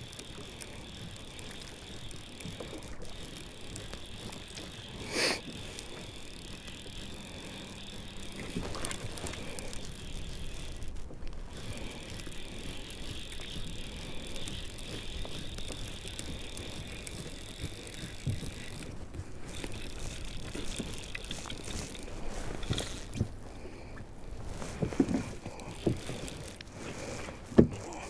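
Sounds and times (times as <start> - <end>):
fly reel drag buzzing: 0.0 - 28.0.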